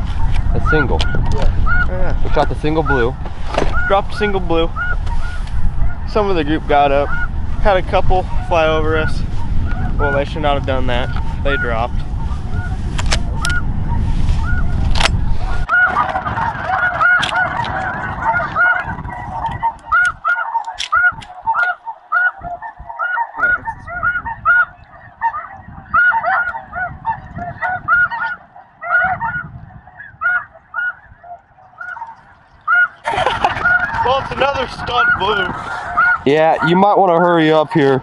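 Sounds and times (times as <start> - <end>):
snow geese honking: 0.0 - 38.0.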